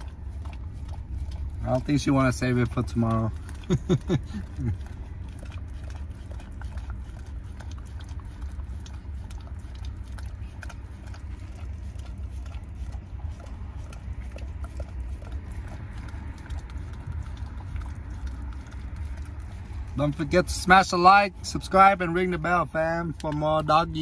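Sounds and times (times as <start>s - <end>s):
dog licking and smacking: 0.0s - 24.0s
steady low rumble: 0.0s - 24.0s.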